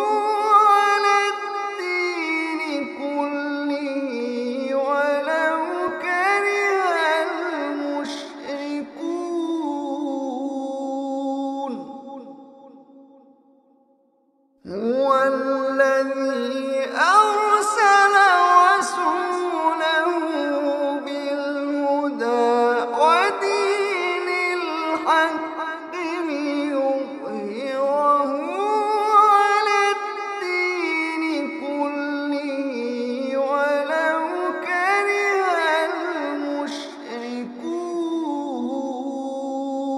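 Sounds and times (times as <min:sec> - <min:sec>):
man chanting melodically: 0:00.0 - 0:12.7, 0:14.7 - 0:39.9.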